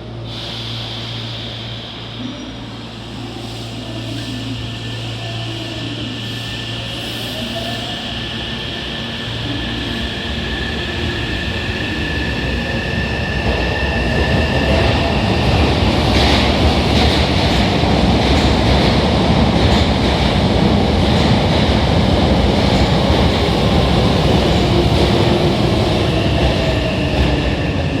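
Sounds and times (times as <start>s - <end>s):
electric train whine: 0.0s - 28.0s
train rumble: 0.0s - 28.0s.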